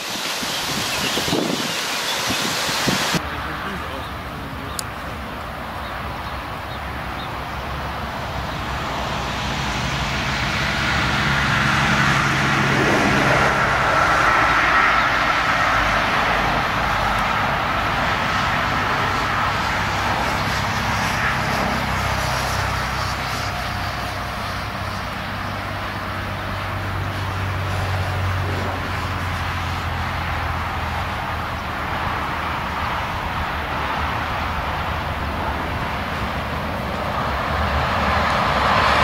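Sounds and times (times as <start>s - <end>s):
railcar engine hum: 0.0s - 39.0s
wheel and rail noise: 0.0s - 39.0s.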